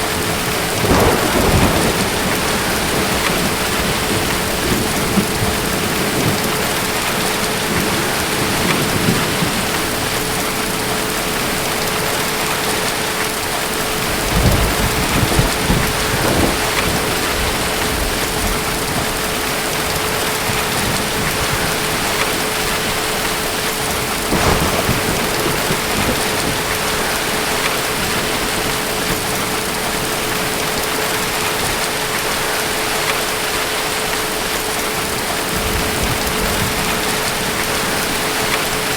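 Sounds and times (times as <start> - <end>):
low thunder rumbling: 0.0 - 38.9
rain hissing: 0.0 - 38.9.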